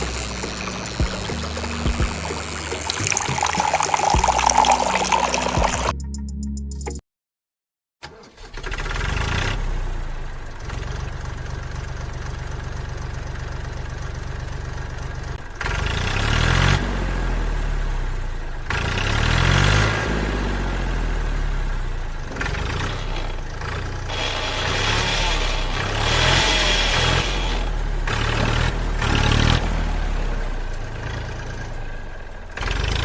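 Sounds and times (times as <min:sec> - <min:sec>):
engine running and revving: 0:00.0 - 0:03.3, 0:08.5 - 0:33.0.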